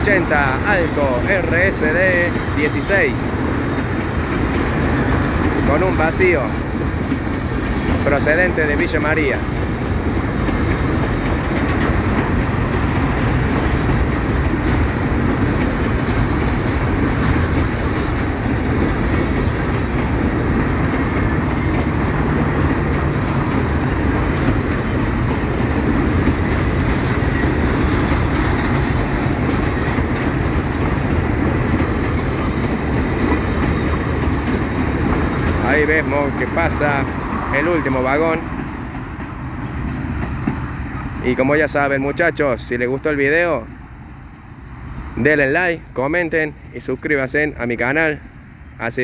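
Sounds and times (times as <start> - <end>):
freight train wheels rumbling: 0.0 - 49.0.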